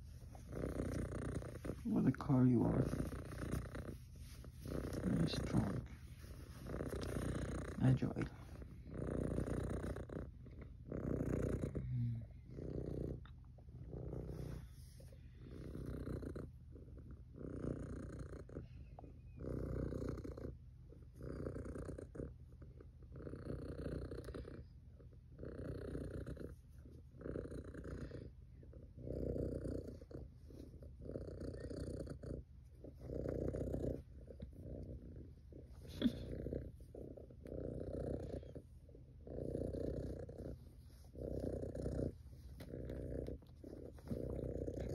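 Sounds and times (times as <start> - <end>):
cat purring: 0.0 - 44.9.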